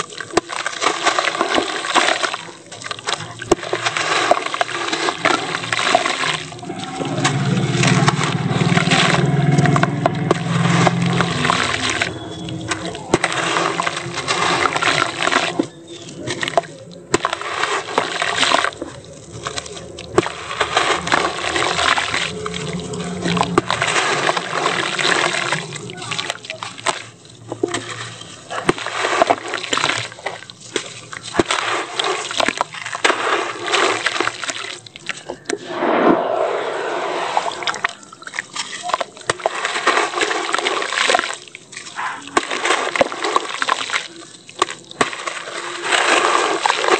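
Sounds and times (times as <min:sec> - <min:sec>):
sand splashing into water: 0:00.0 - 0:35.2, 0:35.8 - 0:46.9
gritty crunching of wet sand: 0:00.0 - 0:35.6, 0:37.1 - 0:46.9.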